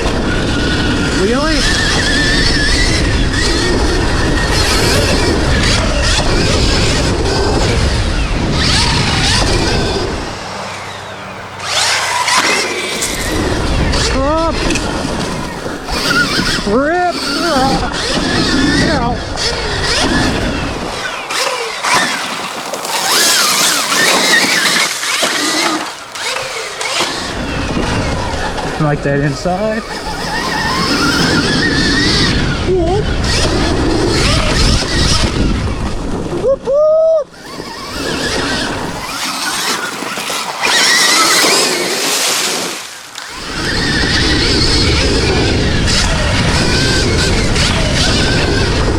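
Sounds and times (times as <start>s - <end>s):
chain and knobby tyre noise: 0.0s - 36.6s, 37.3s - 48.9s
electric motorbike motor whining: 0.0s - 48.9s.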